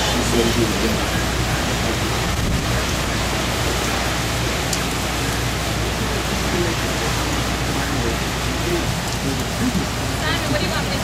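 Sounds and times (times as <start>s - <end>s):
heavy driving rain: 0.0s - 11.0s
howling wind: 0.0s - 11.0s.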